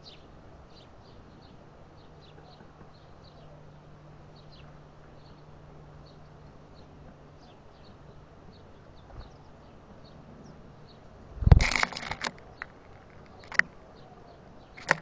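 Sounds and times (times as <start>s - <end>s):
songbirds chip calls: 0.0s - 15.0s.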